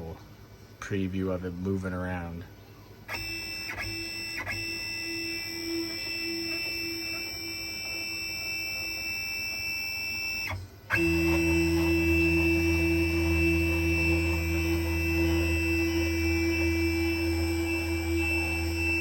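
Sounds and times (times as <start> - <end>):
servo motors whining: 3.0 - 19.0.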